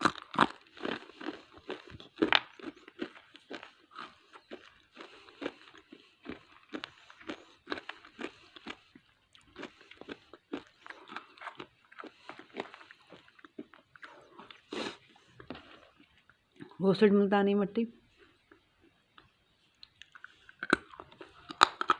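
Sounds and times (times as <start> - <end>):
chewing hard clay crunches: 0.0 - 16.8, 18.3 - 21.9.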